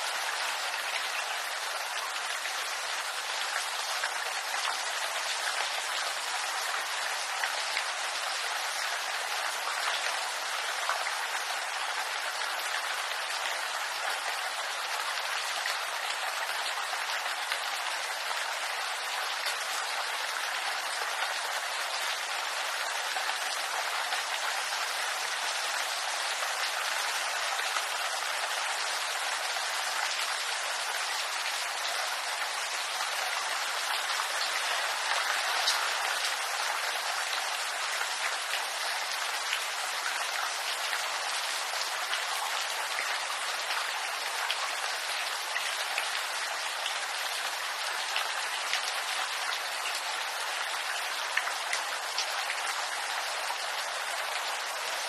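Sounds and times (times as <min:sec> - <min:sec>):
rain on bamboo leaves: 0:00.0 - 0:55.0.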